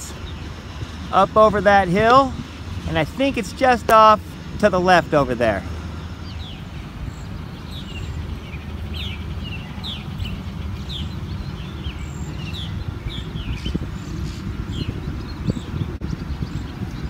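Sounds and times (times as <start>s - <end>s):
songbirds chirping: 0.0s - 17.0s
steady low rumble: 0.0s - 17.0s.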